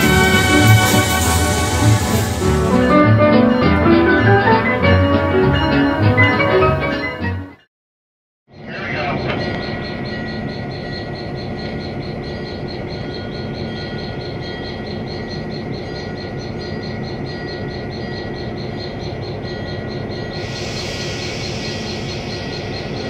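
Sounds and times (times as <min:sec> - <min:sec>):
steady high whine: 0:00.0 - 0:04.3, 0:08.8 - 0:23.0
diesel locomotive engine running: 0:00.0 - 0:06.1, 0:08.8 - 0:23.0.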